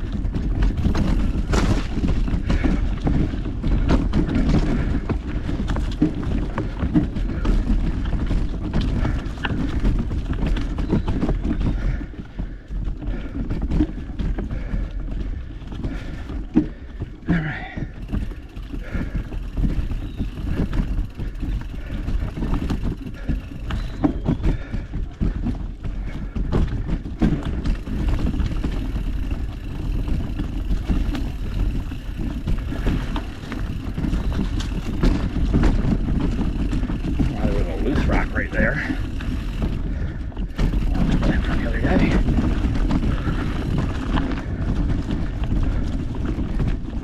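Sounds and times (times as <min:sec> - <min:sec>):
bike rattling and knocking: 0:00.0 - 0:47.0
bike tyres rumbling on dirt: 0:00.0 - 0:47.0.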